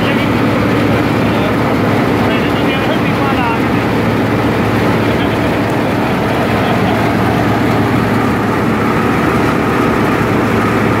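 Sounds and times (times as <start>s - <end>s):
constant low hum: 0.0s - 11.0s
thresher running: 0.0s - 11.0s.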